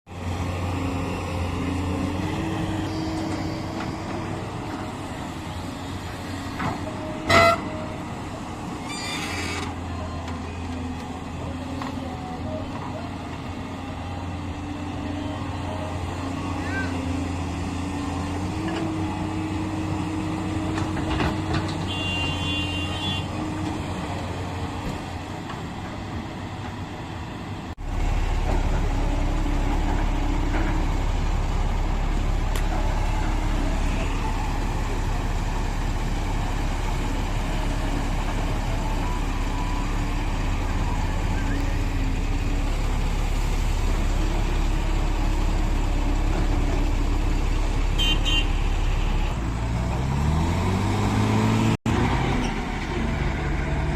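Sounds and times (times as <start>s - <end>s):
diesel machinery engines: 0.1s - 53.9s.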